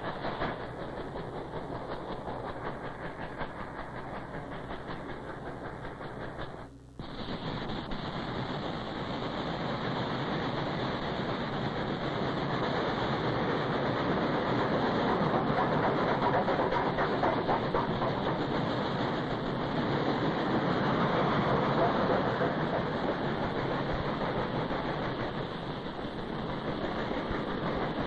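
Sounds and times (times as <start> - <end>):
steam train wheels clattering: 0.0 - 28.0.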